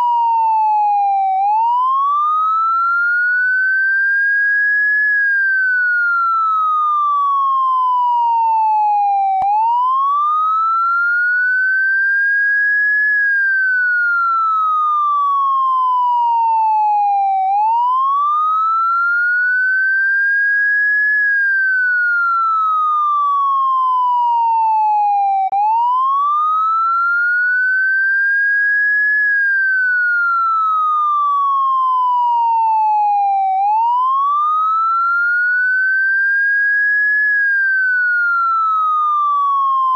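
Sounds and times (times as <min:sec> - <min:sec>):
electronic police siren wailing: 0:00.0 - 0:39.9.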